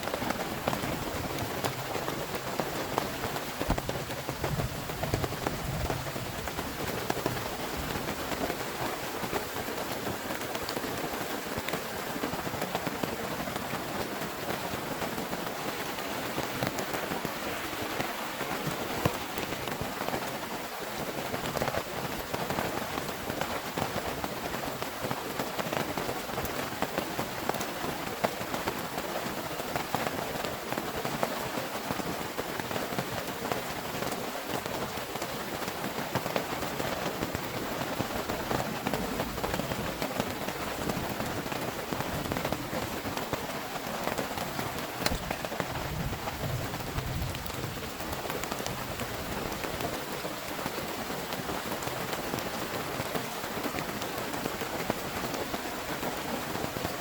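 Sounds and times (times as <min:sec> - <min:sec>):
heavy rain falling: 0:00.0 - 0:57.0
rain drops hitting a surface: 0:00.0 - 0:57.0.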